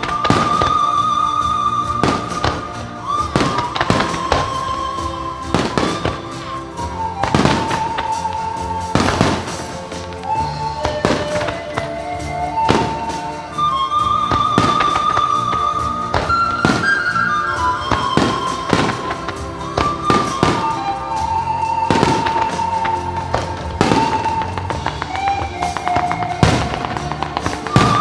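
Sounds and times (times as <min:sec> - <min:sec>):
firework shells bursting: 0:00.0 - 0:28.0
music with slow melody: 0:00.0 - 0:28.0.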